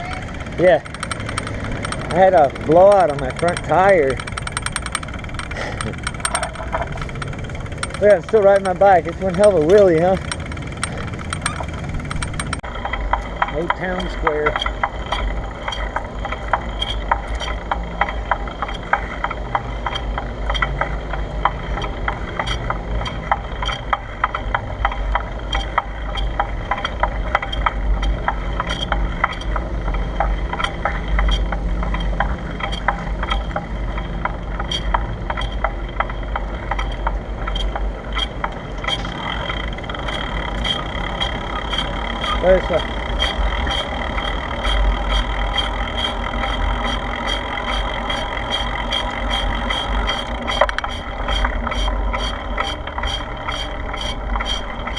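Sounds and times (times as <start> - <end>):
bicycle rattling and clicking: 0.0 - 54.9.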